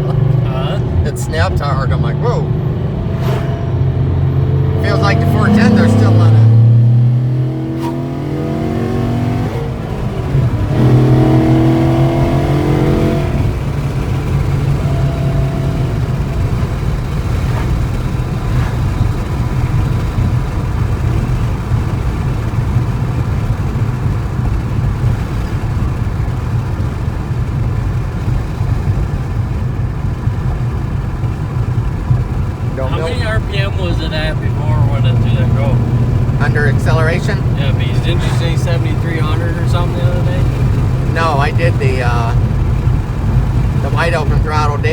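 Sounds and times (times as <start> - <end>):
car engine revving and droning: 0.0 - 44.9.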